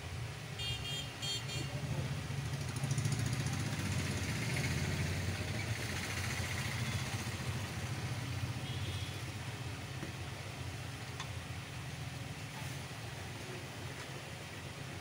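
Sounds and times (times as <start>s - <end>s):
vehicle engine rumbling: 1.6s - 14.8s.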